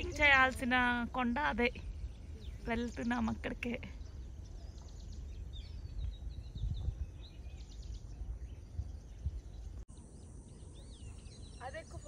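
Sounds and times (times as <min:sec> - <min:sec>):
birds chirping: 0:00.0 - 0:12.0
wind gusting on microphone: 0:00.0 - 0:12.0.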